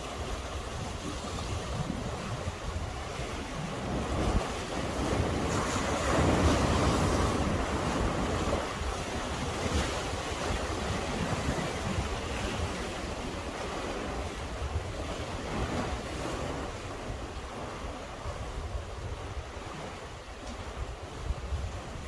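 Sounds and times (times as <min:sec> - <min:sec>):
sea swell washing against breakwater: 0:00.0 - 0:22.0
wind buffeting microphone: 0:00.0 - 0:22.0.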